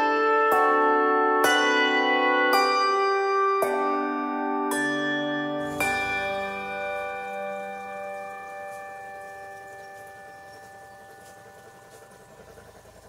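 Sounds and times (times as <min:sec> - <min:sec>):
bell-like chime chords: 0:00.0 - 0:13.0.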